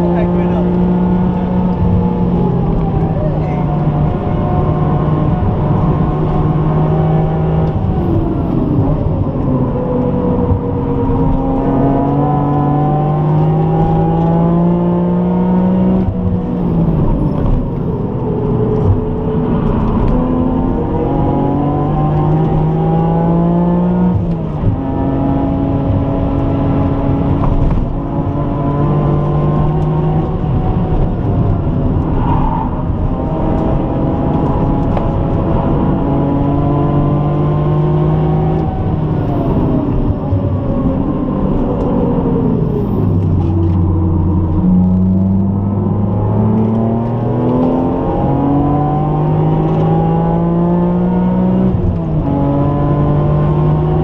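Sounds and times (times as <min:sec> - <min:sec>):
car engine revving under load: 0:00.0 - 0:54.0.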